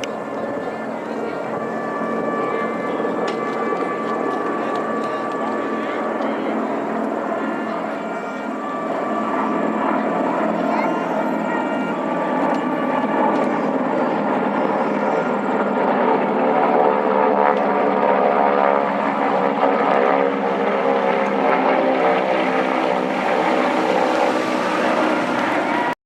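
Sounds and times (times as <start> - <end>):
propeller airplane engine drone: 0.0 - 26.0.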